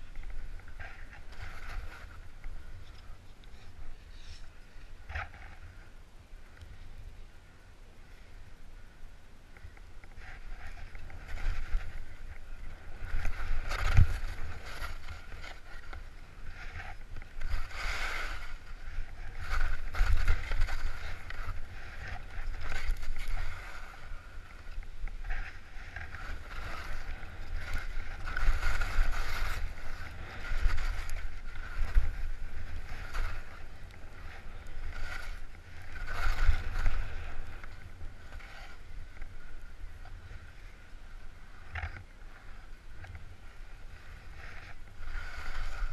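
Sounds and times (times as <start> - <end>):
skis scraping over snow: 0.0 - 5.9, 9.6 - 45.9
wind rumble on microphone: 0.0 - 45.9.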